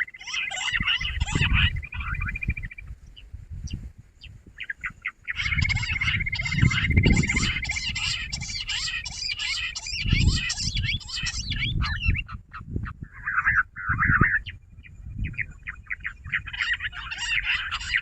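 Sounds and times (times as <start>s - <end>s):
quail chirping chorus: 0.0s - 18.0s.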